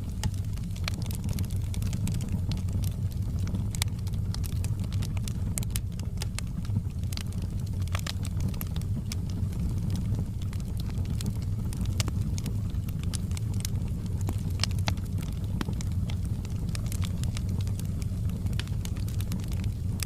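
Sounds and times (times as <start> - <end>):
low rumble of burning: 0.0 - 20.0
wood fire crackling and popping: 0.0 - 20.0.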